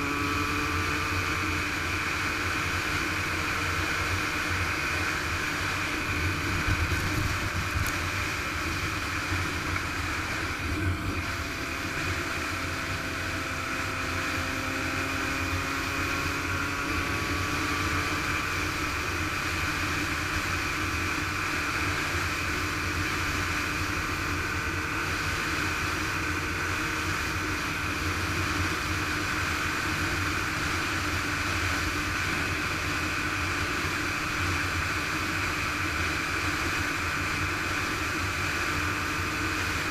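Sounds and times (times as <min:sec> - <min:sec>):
motocross engine running: 0:00.0 - 0:39.9.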